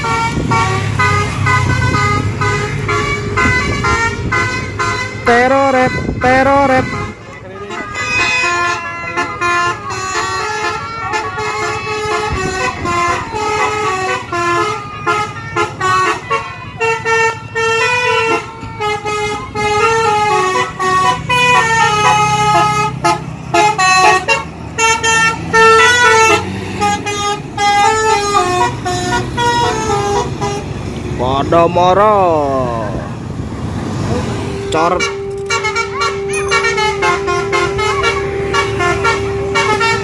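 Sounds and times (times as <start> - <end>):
musical bus horn playing tunes: 0.0 - 31.1, 34.2 - 40.0
bus engine humming: 0.0 - 40.0.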